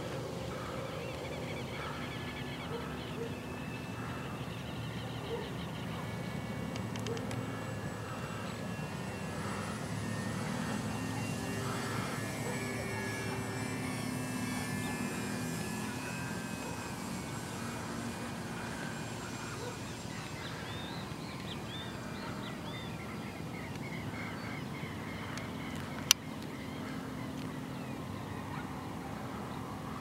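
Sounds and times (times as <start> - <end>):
model airplane motor droning: 0.0 - 30.0.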